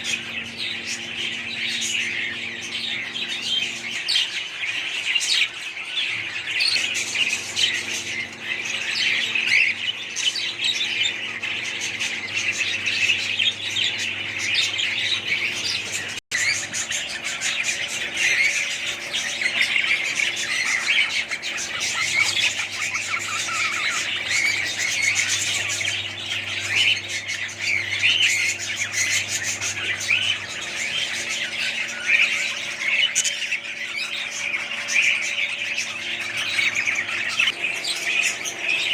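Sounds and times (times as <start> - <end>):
budgerigars chattering and squawking: 0.0 - 38.9
steady low hum: 0.0 - 38.9.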